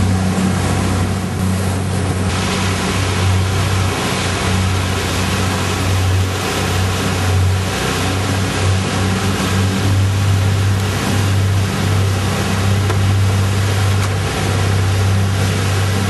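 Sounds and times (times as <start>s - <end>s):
motor engine droning: 0.0s - 16.0s
wind and motion noise: 0.0s - 16.0s.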